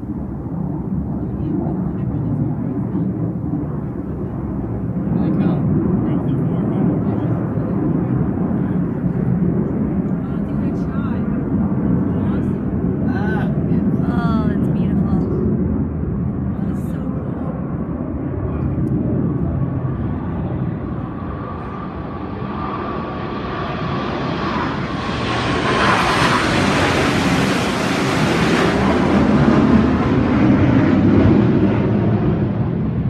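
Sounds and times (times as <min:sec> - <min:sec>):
airplanes flying over: 0:00.0 - 0:33.0.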